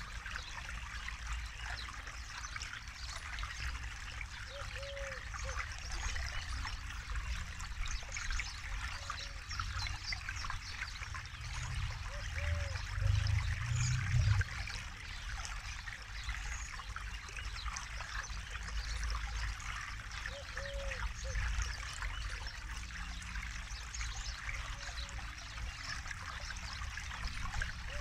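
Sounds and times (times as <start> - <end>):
low rush of water: 0.0 - 28.0
river water babbling over stones: 0.0 - 28.0.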